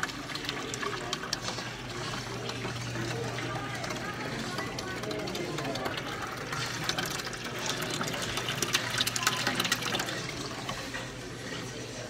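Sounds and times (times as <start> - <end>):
water splashing in plastic tub: 0.0 - 11.2.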